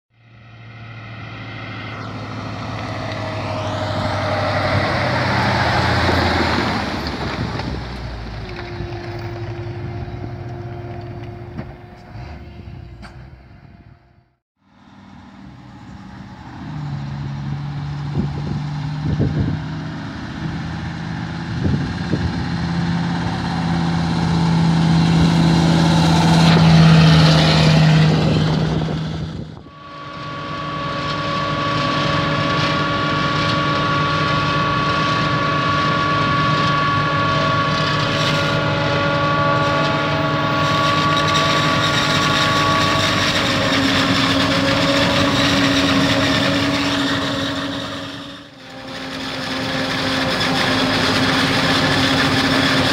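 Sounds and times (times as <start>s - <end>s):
high whine: 0.1s - 52.9s
truck diesel engine: 0.1s - 52.9s
truck driving: 0.1s - 52.9s.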